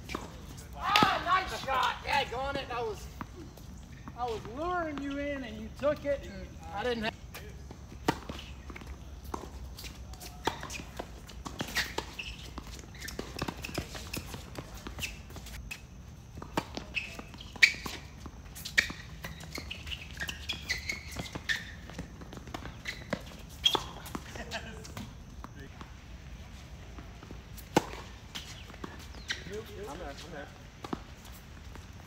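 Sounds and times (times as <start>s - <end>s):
tennis balls struck by rackets: 0.0s - 2.4s, 6.9s - 26.0s, 26.8s - 32.0s
tennis balls bouncing on court: 0.0s - 32.0s.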